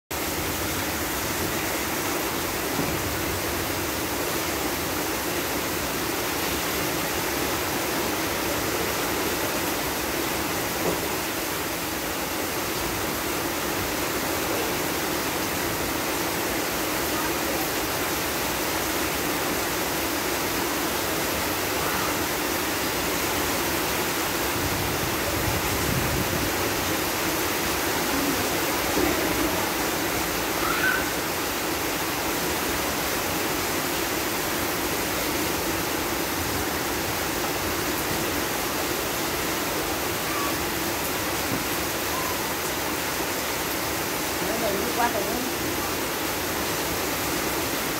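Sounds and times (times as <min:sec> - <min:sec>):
heavy rain pouring: 0:00.1 - 0:47.9.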